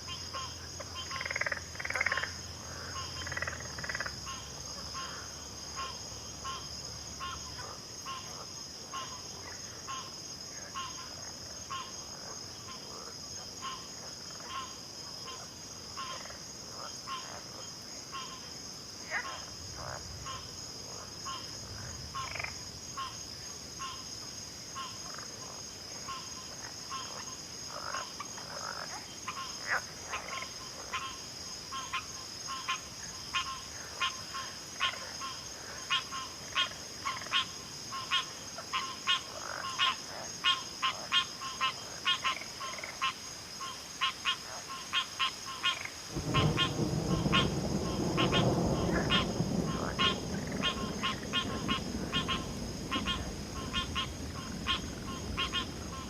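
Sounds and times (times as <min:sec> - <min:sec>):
frogs calling: 0:00.0 - 0:56.0
high insect trill: 0:00.0 - 0:56.0.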